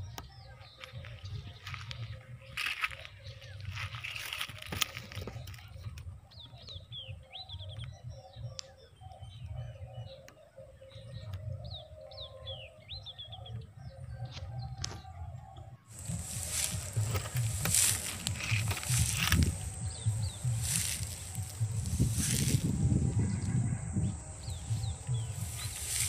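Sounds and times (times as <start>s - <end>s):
birds chirping faintly: 0.0s - 26.0s.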